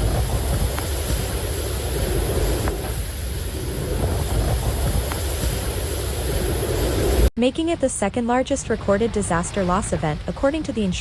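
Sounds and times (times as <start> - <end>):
low rumbling gusts: 0.0 - 11.0
storm wind on microphone: 0.0 - 11.0.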